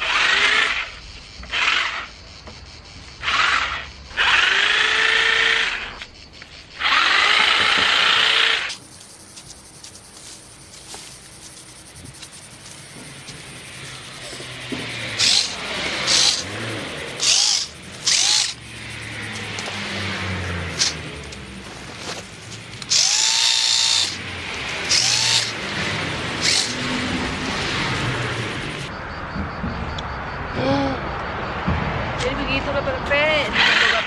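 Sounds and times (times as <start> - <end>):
electric chainsaw cutting stems: 0.0 - 2.1, 3.2 - 28.9, 33.4 - 34.0.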